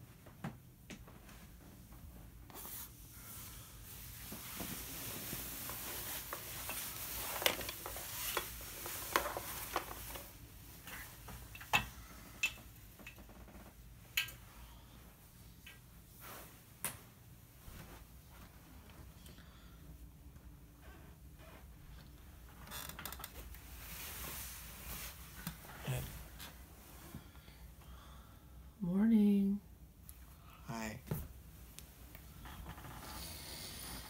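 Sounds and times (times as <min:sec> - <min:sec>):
rustling of objects and fabric: 0:00.0 - 0:27.8.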